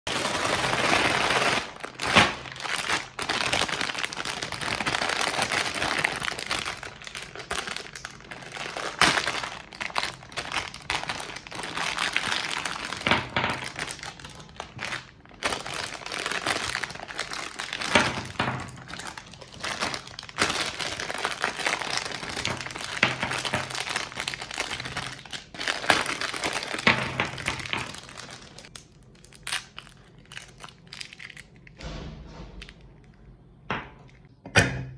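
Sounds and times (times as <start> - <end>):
hard candy cracking: 0.1 - 31.8.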